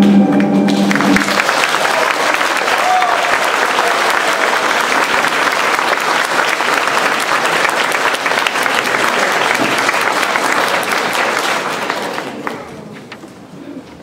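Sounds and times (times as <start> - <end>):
audience applauding: 0.3 - 12.9.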